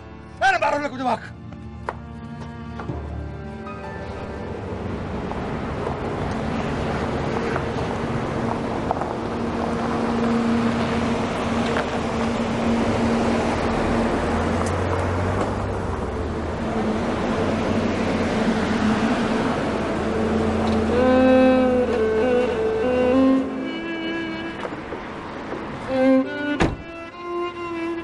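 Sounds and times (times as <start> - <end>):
music with strings: 0.0 - 28.0
car engine humming: 1.4 - 28.0.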